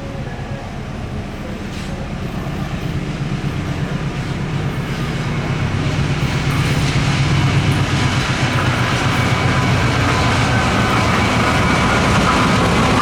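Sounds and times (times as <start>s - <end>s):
train wheels clattering on rails: 1.2s - 13.0s.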